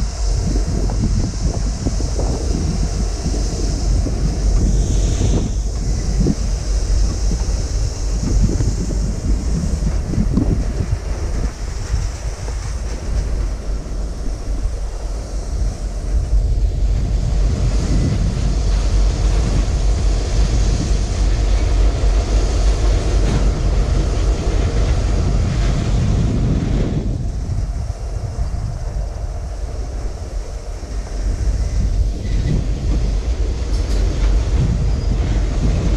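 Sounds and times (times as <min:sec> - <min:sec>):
hiss: 0:00.0 - 0:35.9
train rumbling by: 0:00.0 - 0:35.9
wind noise on microphone: 0:00.0 - 0:35.9.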